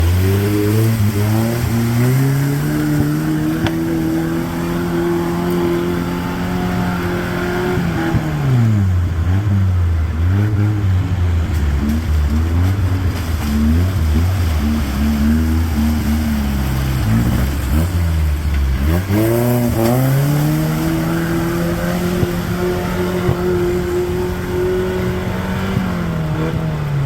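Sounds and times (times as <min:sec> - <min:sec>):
off-road engine revving: 0:00.0 - 0:27.0.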